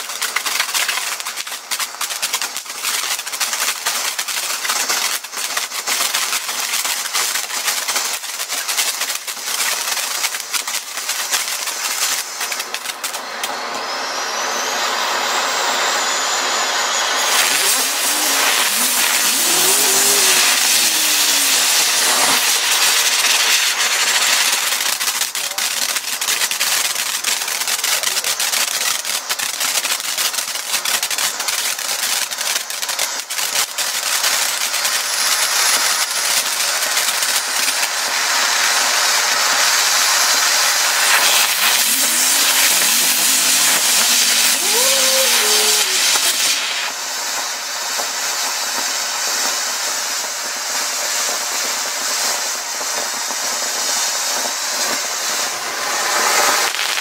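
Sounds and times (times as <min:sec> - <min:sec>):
sharp crackles: 0:00.0 - 0:13.7, 0:17.2 - 0:57.0
fireworks fountain hissing: 0:00.0 - 0:57.0.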